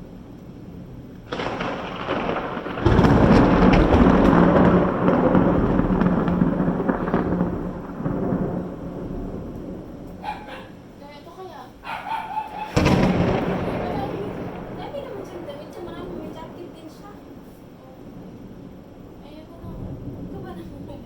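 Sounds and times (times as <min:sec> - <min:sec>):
thunderclap crack and rumble: 0:00.0 - 0:21.0.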